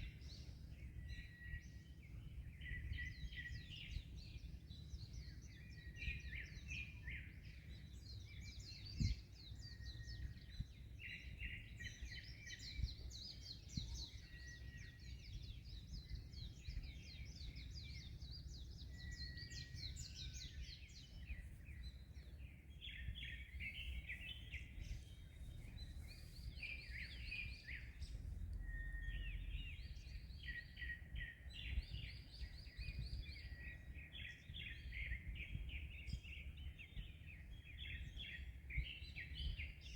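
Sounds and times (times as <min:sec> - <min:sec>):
small birds chirping and trilling: 0:00.0 - 0:39.9
wind: 0:00.0 - 0:39.9.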